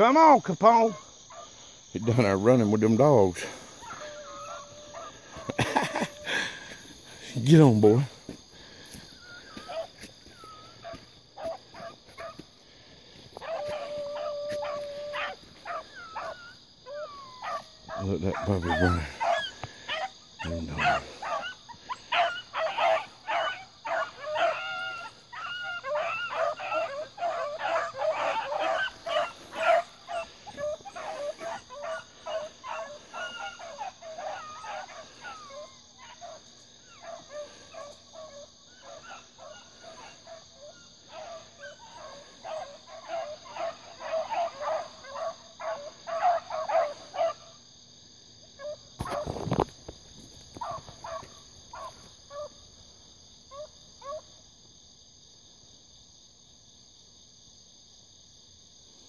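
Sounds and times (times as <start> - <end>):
hounds baying and yelping: 0.0 - 54.8.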